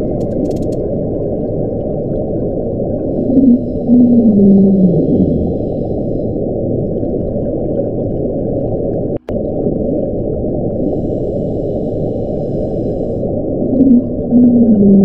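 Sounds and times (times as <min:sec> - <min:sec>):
muffled low underwater noise: 0:00.0 - 0:15.0.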